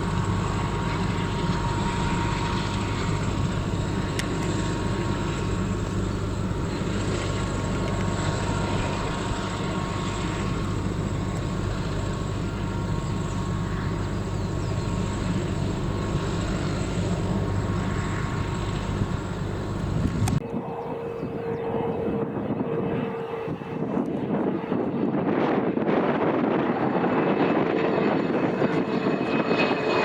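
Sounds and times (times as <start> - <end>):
aircraft engines running: 0.0 - 30.0.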